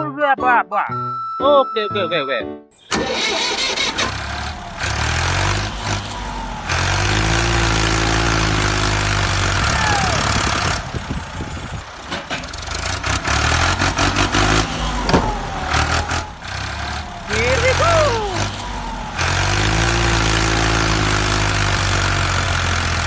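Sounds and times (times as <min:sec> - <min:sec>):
vehicle engine running: 0:03.2 - 0:23.0.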